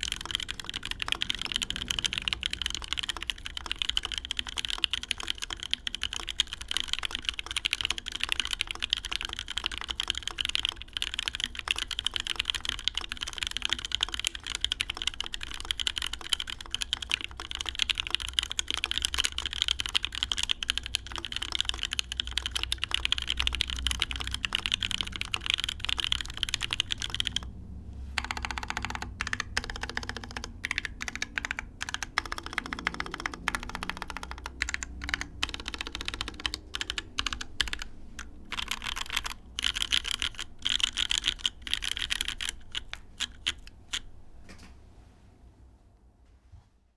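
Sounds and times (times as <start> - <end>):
mechanical keyboard typing: 0.0 - 27.5, 28.2 - 44.2.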